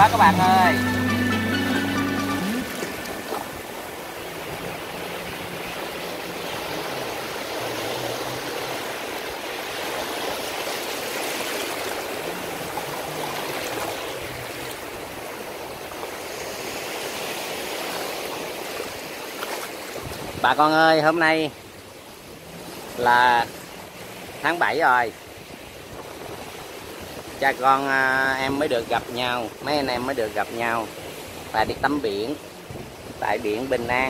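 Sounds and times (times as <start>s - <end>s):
waves breaking on sandy shore: 0.0s - 34.0s.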